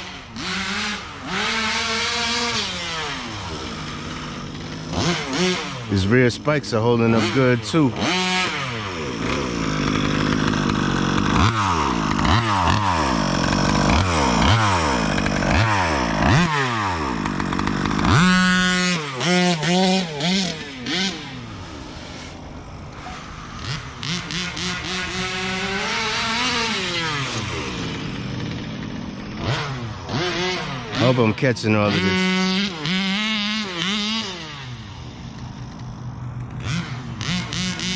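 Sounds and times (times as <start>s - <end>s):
two-stroke engine revving: 0.0s - 37.9s.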